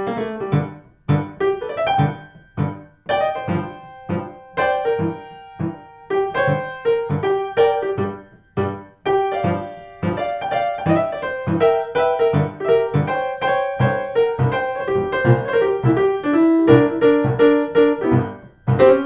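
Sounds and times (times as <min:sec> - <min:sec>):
solo blues piano: 0:00.0 - 0:19.0.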